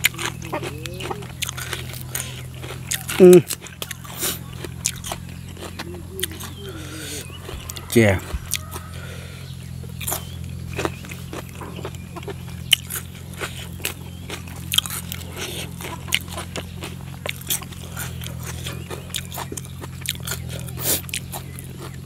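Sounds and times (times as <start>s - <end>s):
person chewing food: 0.0s - 22.0s.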